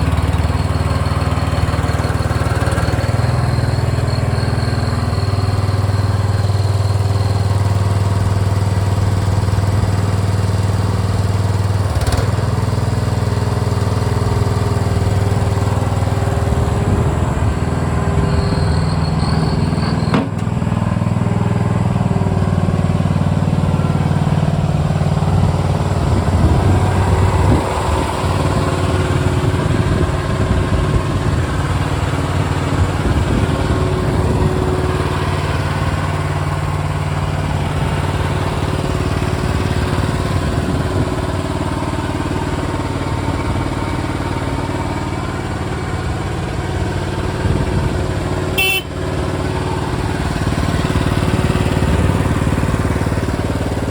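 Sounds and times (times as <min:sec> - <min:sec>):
loader engine running: 0:00.0 - 0:53.9.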